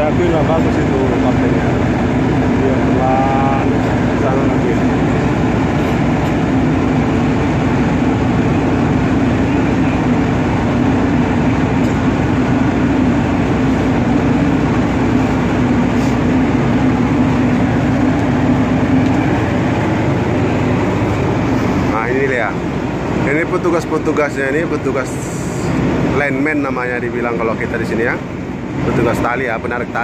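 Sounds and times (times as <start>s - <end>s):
ship engine rumbling: 0.0s - 30.0s.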